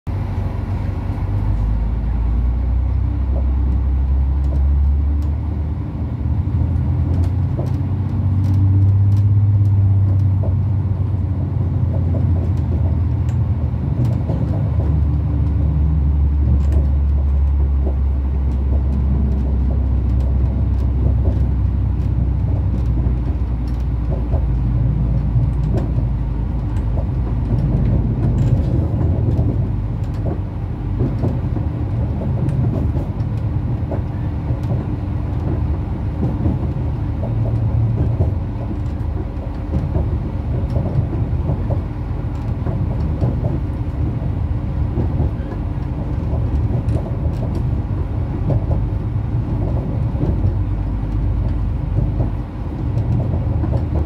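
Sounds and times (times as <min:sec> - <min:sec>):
train engine rumble: 0:00.1 - 0:54.0
wheels clicking on track: 0:00.3 - 0:54.0.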